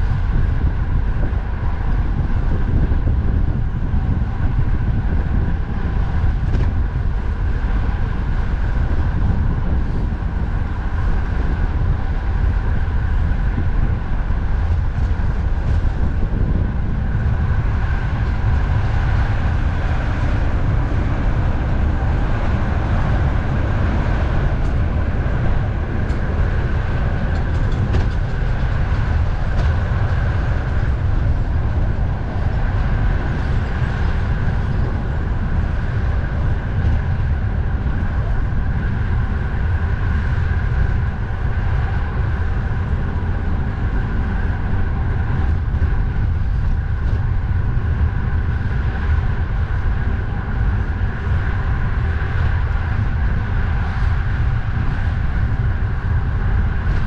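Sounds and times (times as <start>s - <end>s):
road and traffic noise: 0.0s - 57.0s
wind rumbling on microphone: 0.0s - 57.0s.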